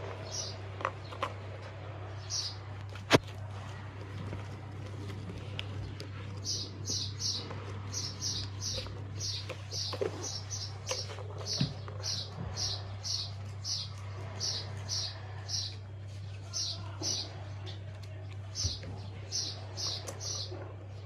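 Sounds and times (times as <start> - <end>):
small bird chirping: 0.0 - 2.8, 4.3 - 21.0
steady low hum: 0.0 - 21.0.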